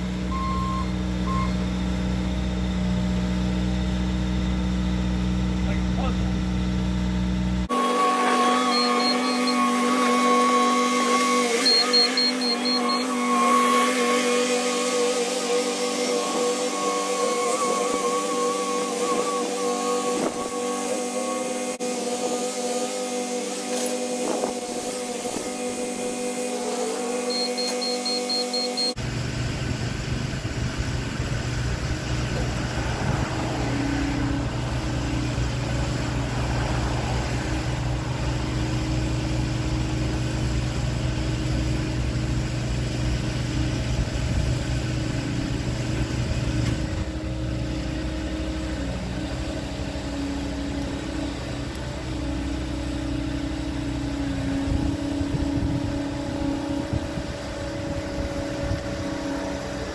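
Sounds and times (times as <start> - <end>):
diesel engine running: 0.0 - 21.9, 24.0 - 59.9.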